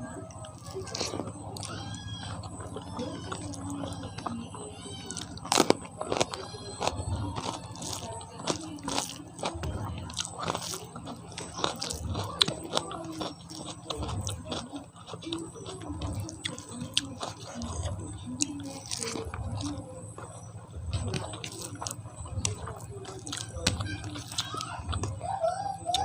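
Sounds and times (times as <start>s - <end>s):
crunches while chewing: 0.0s - 26.0s
person chewing food: 0.0s - 26.0s.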